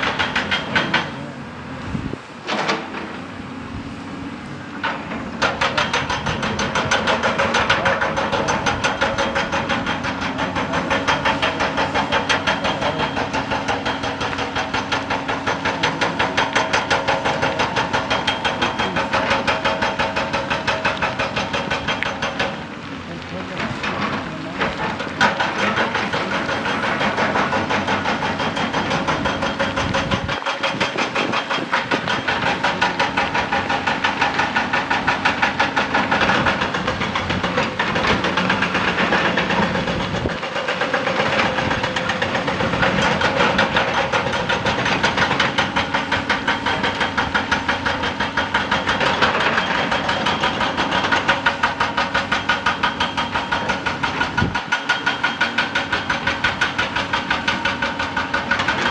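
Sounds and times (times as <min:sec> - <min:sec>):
diesel engine running: 0:00.0 - 0:58.9
hydraulic breaker hammering rock: 0:00.0 - 0:58.9.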